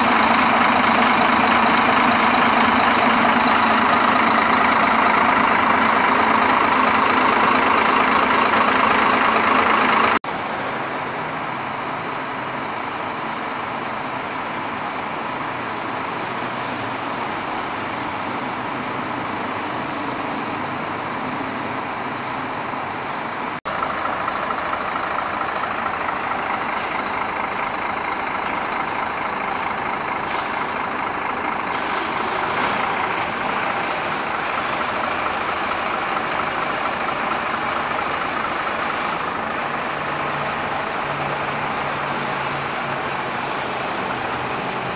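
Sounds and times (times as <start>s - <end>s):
diesel coach engine idling: 0.0s - 44.9s.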